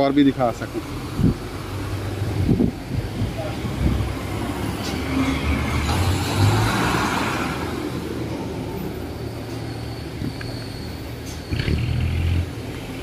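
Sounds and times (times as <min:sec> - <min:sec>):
street traffic: 0:00.0 - 0:13.0
bus engine driving past: 0:00.2 - 0:13.0.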